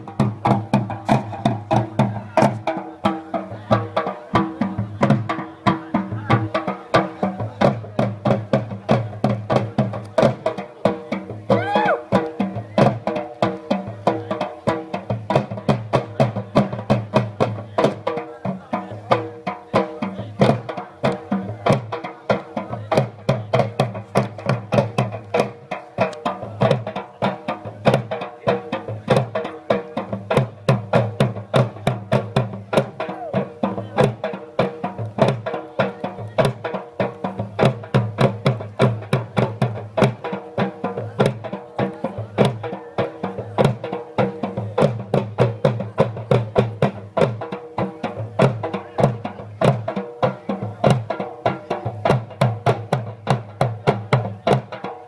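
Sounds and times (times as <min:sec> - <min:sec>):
barrel drums beating: 0:00.0 - 0:55.0.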